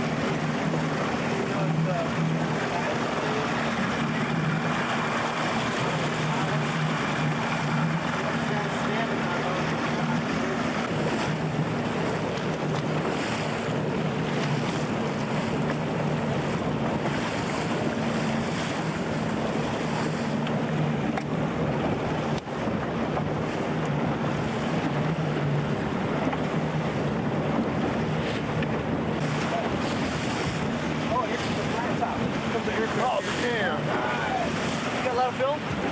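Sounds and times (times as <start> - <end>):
low engine drone: 0.0 - 35.9
wind buffeting microphone: 0.0 - 35.9.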